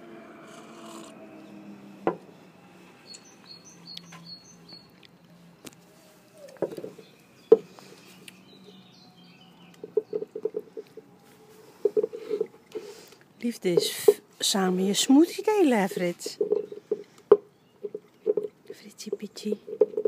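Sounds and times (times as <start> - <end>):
small birds chirping: 0.4 - 20.0.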